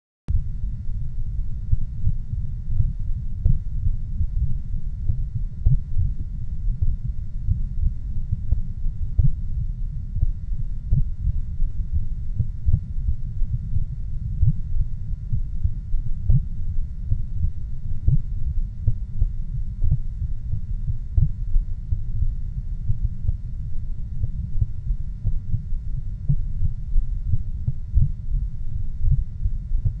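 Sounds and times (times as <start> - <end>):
deep low rumble: 0.3 - 30.0.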